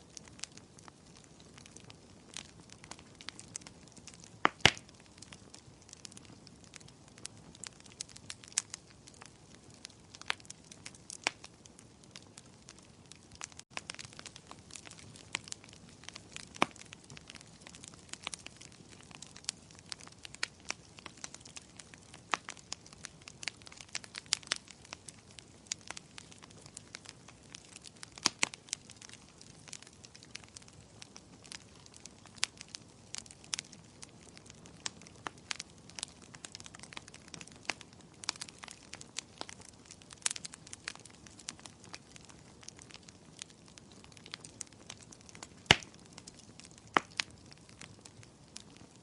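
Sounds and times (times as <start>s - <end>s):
firewood crackling and popping: 0.0s - 49.0s.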